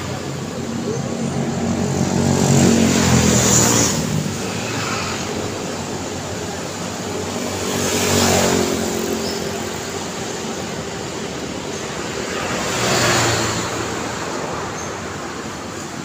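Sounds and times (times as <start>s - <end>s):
motorcycle passing: 0.0s - 15.9s
car passing: 0.0s - 16.0s
distant traffic hum: 0.0s - 16.0s.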